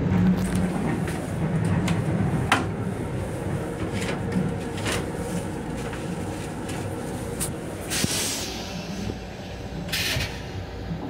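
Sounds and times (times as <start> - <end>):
railcar low rumble: 0.0 - 11.0.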